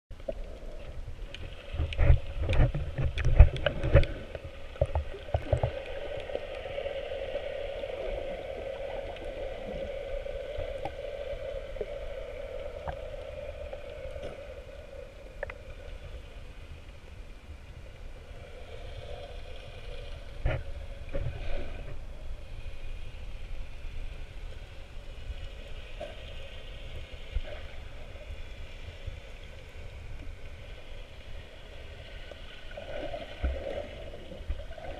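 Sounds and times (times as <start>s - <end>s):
muffled underwater water movement: 0.1s - 34.9s.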